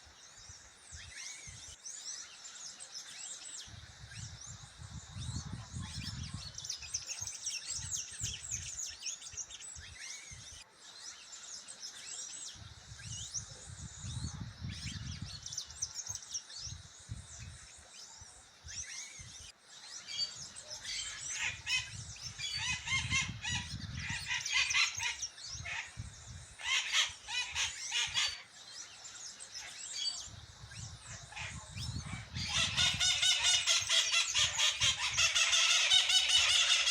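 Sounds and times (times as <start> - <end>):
birds calling and chirping: 0.0 - 36.9.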